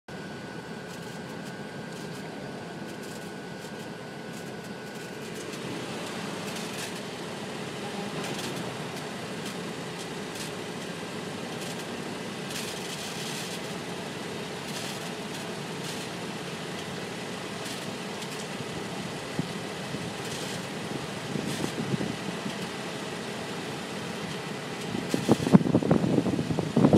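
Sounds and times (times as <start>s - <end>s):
steady hum: 0.1s - 26.9s
thin steady whine: 0.1s - 26.9s.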